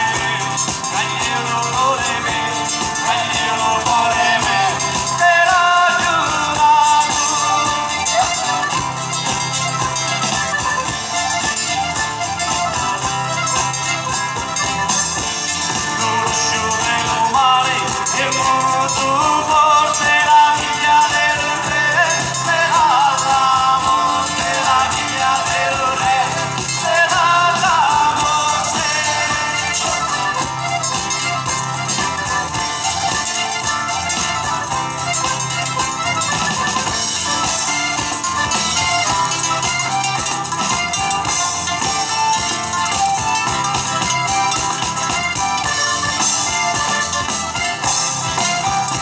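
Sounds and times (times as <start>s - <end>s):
accordion: 0.0s - 49.0s
acoustic guitars: 0.0s - 49.0s
jingling hand percussion: 0.0s - 49.0s
tambourine beat: 0.0s - 49.0s.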